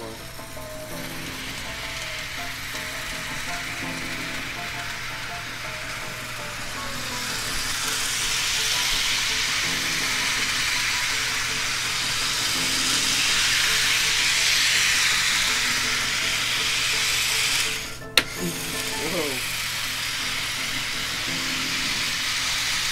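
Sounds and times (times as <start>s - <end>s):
model train running on track: 0.0s - 22.9s.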